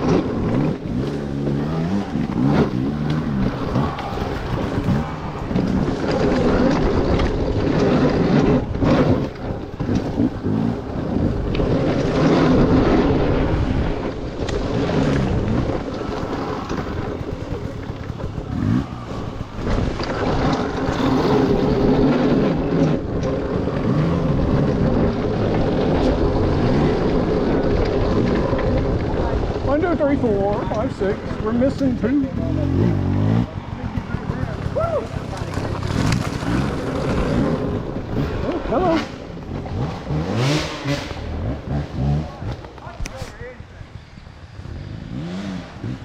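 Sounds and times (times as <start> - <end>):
dirt bike engine running: 0.0 - 46.0
wind rumbling on microphone: 0.0 - 46.0.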